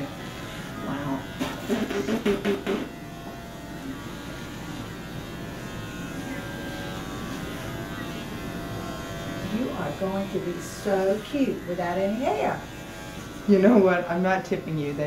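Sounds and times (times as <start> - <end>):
electric hair clippers humming: 0.0 - 15.0.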